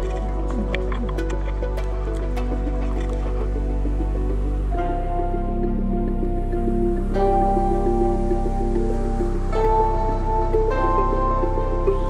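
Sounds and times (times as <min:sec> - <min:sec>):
background music over low drone: 0:00.0 - 0:12.0.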